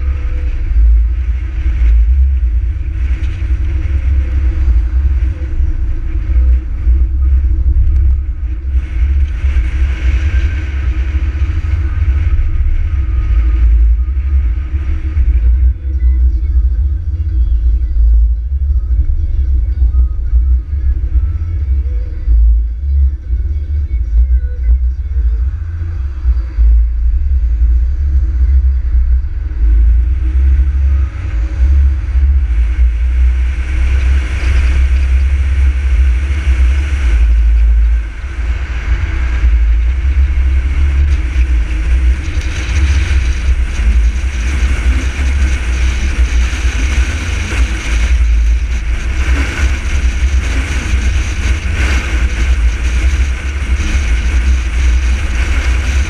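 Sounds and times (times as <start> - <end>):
car engine low rumble: 0.0 - 56.0
road noise: 0.0 - 56.0.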